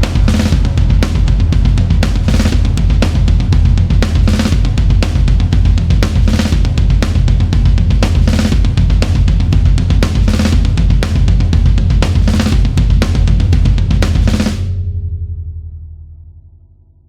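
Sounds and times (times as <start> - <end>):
rock drum beat: 0.0 - 14.7
deep bass: 0.0 - 17.0.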